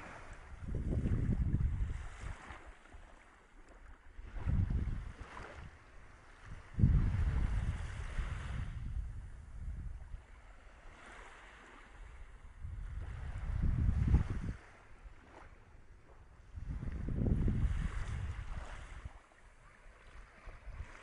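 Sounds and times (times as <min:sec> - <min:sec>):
wind buffeting microphone: 0:00.0 - 0:02.7, 0:04.2 - 0:15.6, 0:16.2 - 0:19.2, 0:20.1 - 0:21.0
small waves washing: 0:00.0 - 0:21.0.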